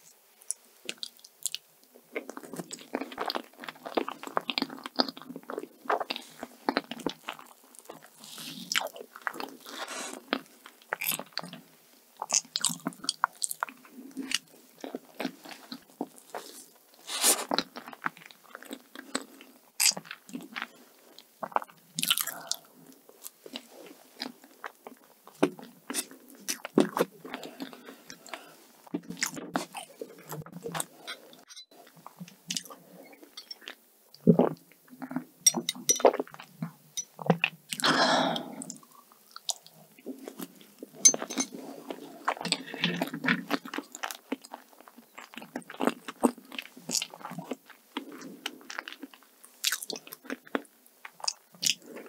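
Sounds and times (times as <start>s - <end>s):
close chewing and mouth sounds: 0.0s - 52.0s.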